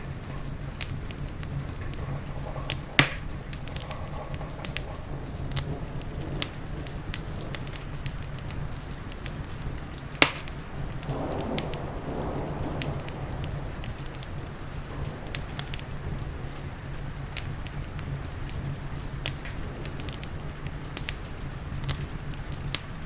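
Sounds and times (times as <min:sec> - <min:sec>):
rain: 0:00.0 - 0:23.0
storm rumble: 0:00.0 - 0:23.0
wood fire crackling and popping: 0:00.0 - 0:23.0.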